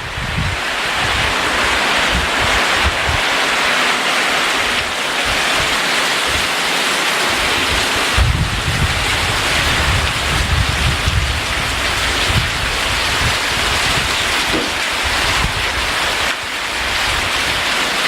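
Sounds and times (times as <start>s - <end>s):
wind buffeting microphone: 0.0s - 6.6s, 7.2s - 17.7s
heavy rain pouring: 0.0s - 18.0s.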